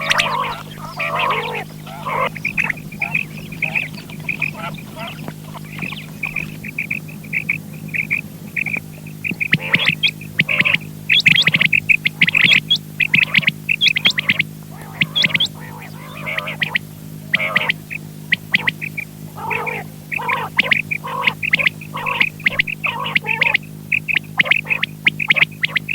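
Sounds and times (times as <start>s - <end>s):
quail calling: 0.0s - 25.9s
steady low hum: 0.0s - 25.9s.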